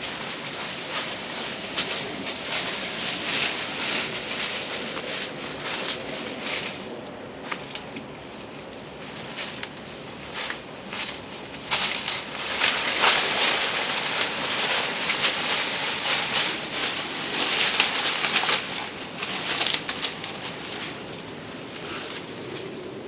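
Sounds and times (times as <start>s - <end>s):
leaves rustling and crackling: 0.0s - 23.0s.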